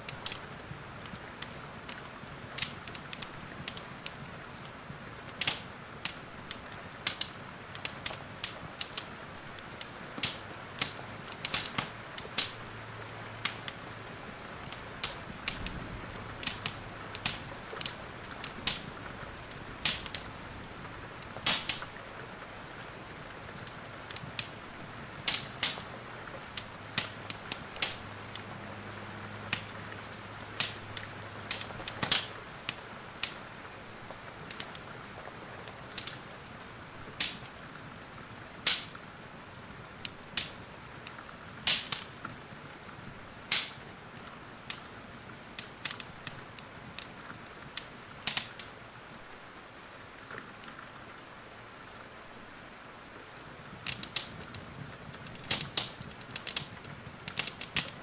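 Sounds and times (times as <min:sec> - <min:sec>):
wood fire crackling and popping: 0:00.0 - 0:48.8, 0:53.6 - 0:58.0
rain hissing: 0:00.0 - 0:58.0.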